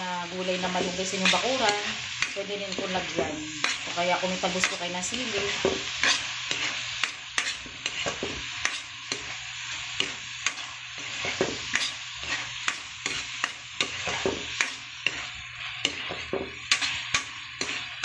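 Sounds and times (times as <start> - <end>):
chicken sizzling in oil: 0.0 - 18.0
metal spatula scraping pan: 0.5 - 18.0.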